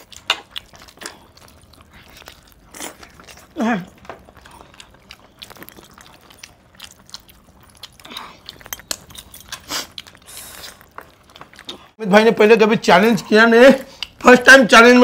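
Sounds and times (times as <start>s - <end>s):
wet chewing and tearing: 0.0s - 12.0s, 13.8s - 14.3s.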